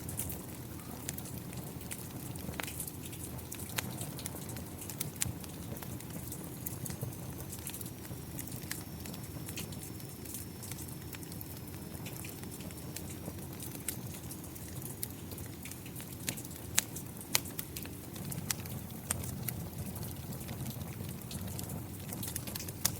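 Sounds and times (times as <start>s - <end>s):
low rumble of fire: 0.0s - 22.9s
rain: 0.0s - 22.9s
wood fire crackling: 0.0s - 22.9s
sharp pops of burning wood: 0.1s - 22.9s.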